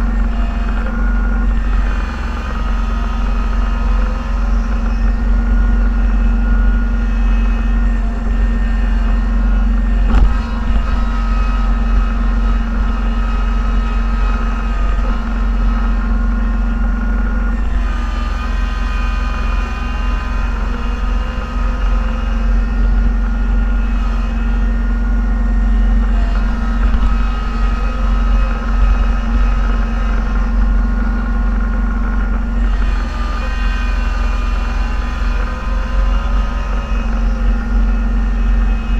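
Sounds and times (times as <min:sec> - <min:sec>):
vehicle engine droning with whine: 0:00.0 - 0:38.9.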